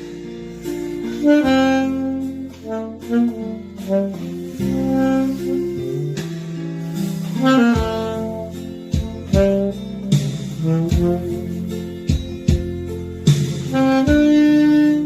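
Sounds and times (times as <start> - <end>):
backing accompaniment with beat: 0.0 - 15.0
saxophone melody: 0.0 - 15.0.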